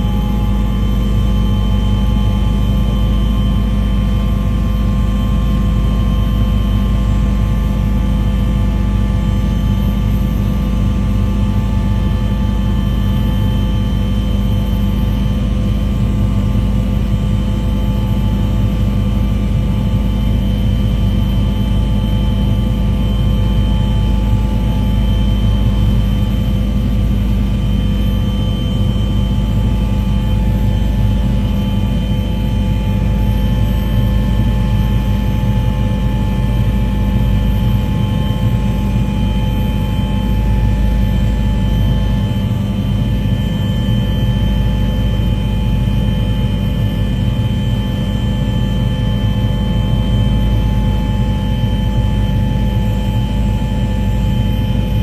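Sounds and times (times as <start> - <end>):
aircraft engine drone: 0.0 - 55.0.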